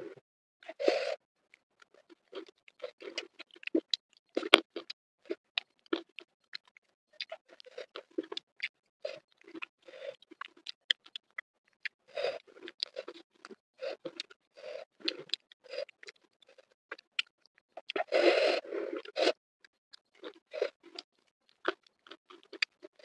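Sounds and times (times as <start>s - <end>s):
crunchy chewing: 1.5s - 23.0s.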